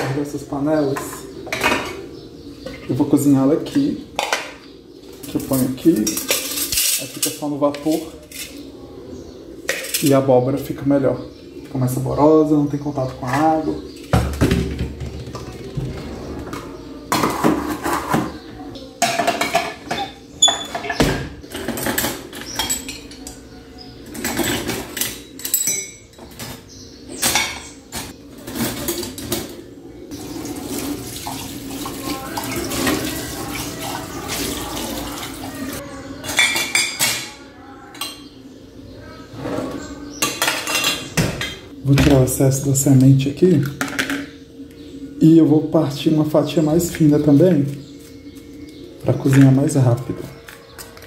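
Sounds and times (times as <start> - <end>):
pots and utensils clattering: 0.0 - 8.8, 9.6 - 10.8, 12.9 - 38.3, 39.2 - 42.8, 43.6 - 44.4, 49.0 - 51.0.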